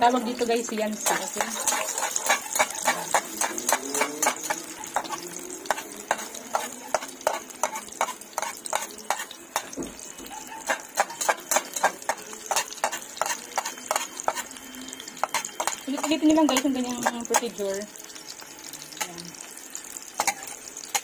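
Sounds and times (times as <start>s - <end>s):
food sizzling in hot oil: 0.0s - 21.0s
spattering oil popping: 0.1s - 21.0s.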